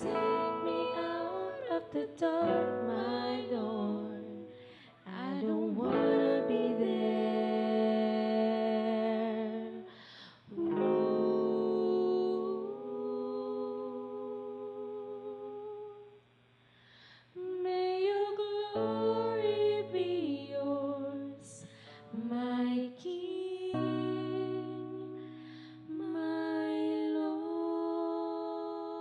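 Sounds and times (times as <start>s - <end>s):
acoustic guitar: 0.0s - 15.6s, 18.0s - 28.6s
women singing worship song: 0.0s - 16.1s, 17.4s - 29.0s.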